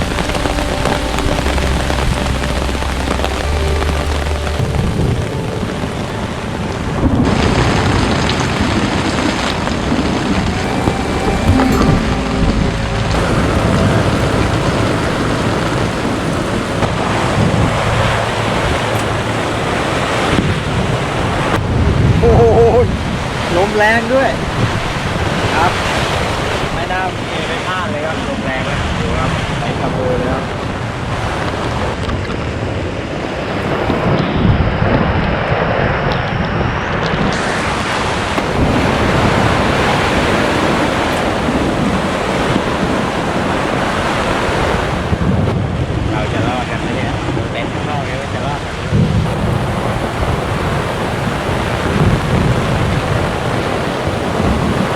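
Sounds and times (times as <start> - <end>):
storm wind blowing into microphone: 0.0 - 54.9.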